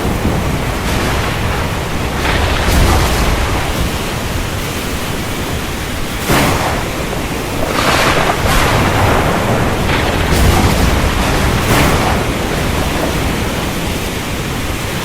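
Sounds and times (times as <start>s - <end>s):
heavy rain and wind roaring: 0.0s - 15.0s
low thunder rumble: 0.0s - 15.0s.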